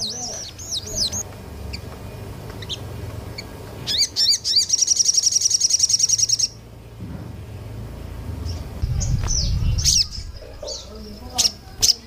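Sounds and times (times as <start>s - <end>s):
songbird chirping and trilling: 0.0s - 12.0s.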